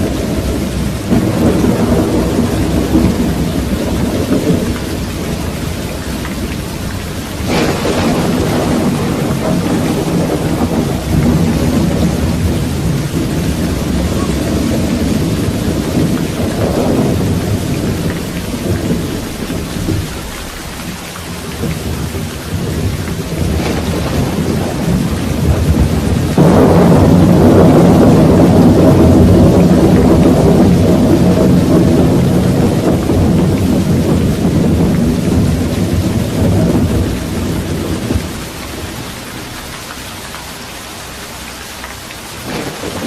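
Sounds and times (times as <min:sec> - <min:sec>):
rolling thunder: 0:00.0 - 0:39.8, 0:42.3 - 0:43.0
steady rain: 0:00.0 - 0:43.0.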